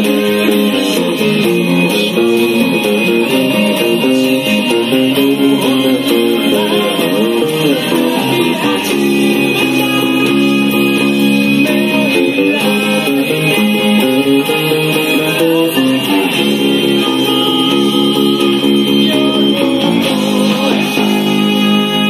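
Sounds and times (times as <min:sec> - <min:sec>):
electric bass line: 0:00.0 - 0:22.0
pop-rock band recording: 0:00.0 - 0:22.0.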